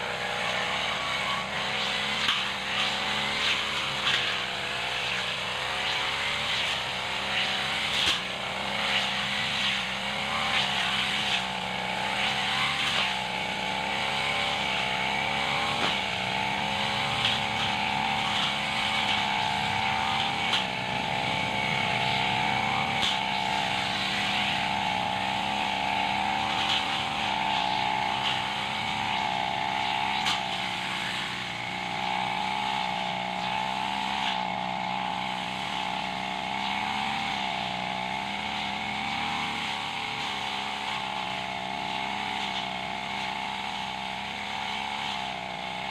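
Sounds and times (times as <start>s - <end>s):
brush cutter engine running: 0.0s - 45.9s
blade ticking on stems: 0.2s - 45.9s.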